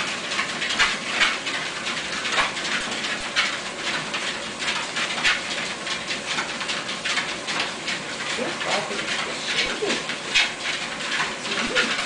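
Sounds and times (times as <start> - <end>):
dog paws scuffing on treadmill: 0.0 - 12.0
treadmill hiss: 0.0 - 12.0.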